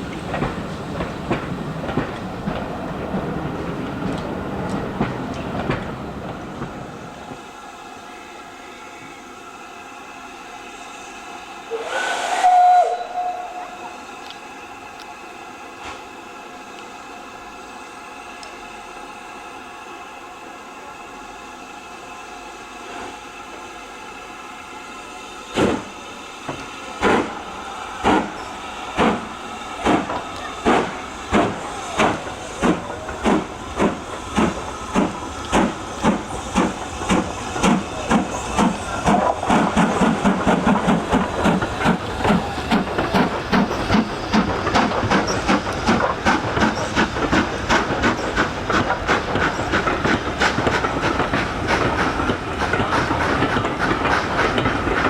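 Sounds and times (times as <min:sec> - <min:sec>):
hiss of steam: 0:00.0 - 0:55.0
steam locomotive chuffing: 0:00.0 - 0:55.0.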